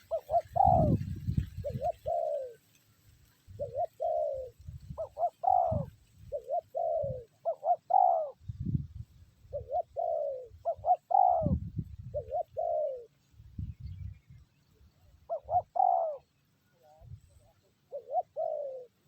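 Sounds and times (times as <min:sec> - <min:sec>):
doves cooing: 0:00.0 - 0:02.8, 0:03.4 - 0:08.4, 0:09.5 - 0:13.2, 0:15.0 - 0:19.0.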